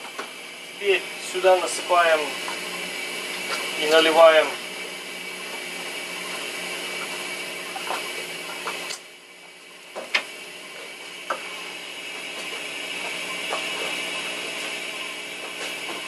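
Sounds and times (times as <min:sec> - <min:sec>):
generator hum: 0:00.0 - 0:16.0.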